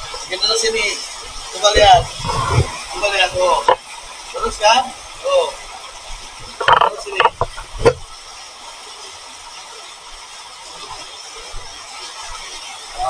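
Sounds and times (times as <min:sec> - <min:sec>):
water rushing in channel: 0:00.0 - 0:13.0.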